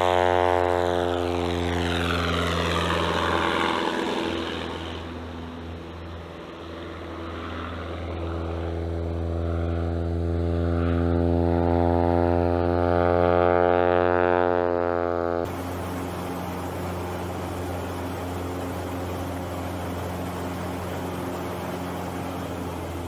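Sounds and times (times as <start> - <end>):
engine drone inside cockpit: 0.0 - 23.0
light plane flying overhead: 0.0 - 23.0.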